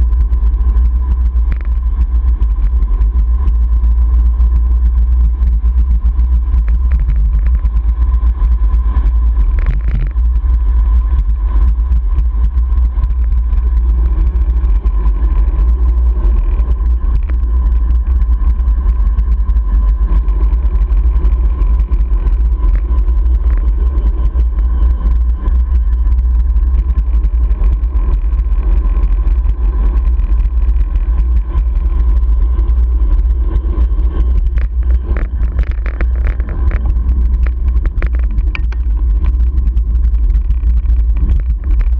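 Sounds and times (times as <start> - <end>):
wind buffeting microphone: 5.2 - 41.9.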